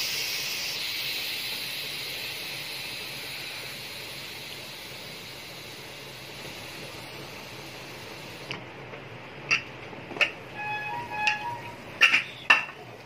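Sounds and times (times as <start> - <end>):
steam hissing from pressure cooker: 0.0 - 8.6, 10.2 - 13.0.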